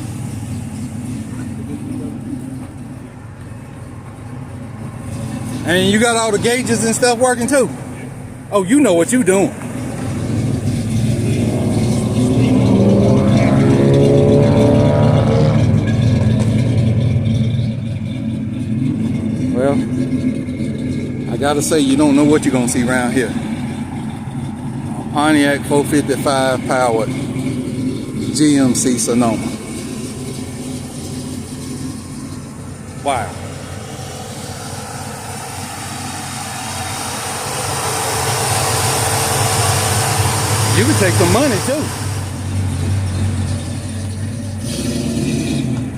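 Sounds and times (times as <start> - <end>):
pickup truck engine revving: 0.0 - 45.9.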